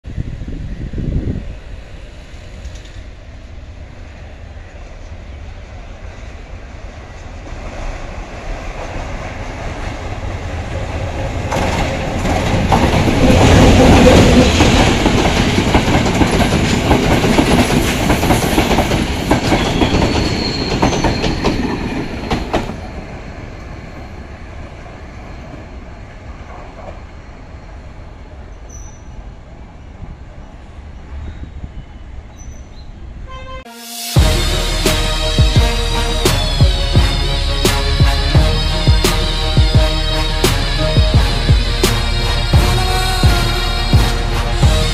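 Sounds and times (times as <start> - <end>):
passenger train passing: 0.0 - 44.9.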